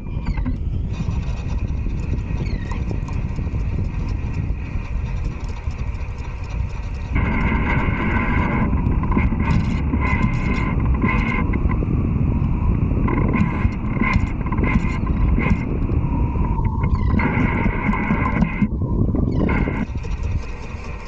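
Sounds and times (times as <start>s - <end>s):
steady multi-tone whine: 0.0s - 21.0s
wind rumbling on microphone: 0.0s - 21.0s.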